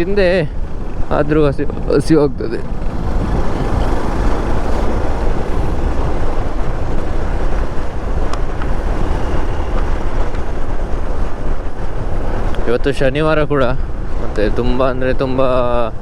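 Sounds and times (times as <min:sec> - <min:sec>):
motorcycle engine and tyre rumble: 0:00.0 - 0:16.0
wind rushing over microphone: 0:00.0 - 0:16.0.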